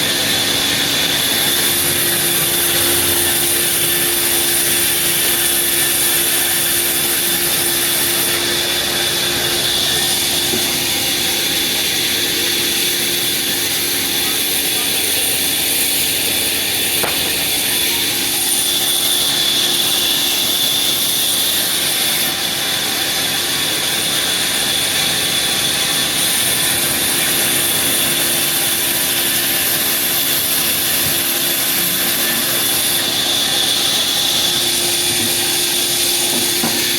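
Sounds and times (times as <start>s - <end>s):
high machine whine: 0.0s - 36.9s
sawmill machinery running: 0.0s - 36.9s.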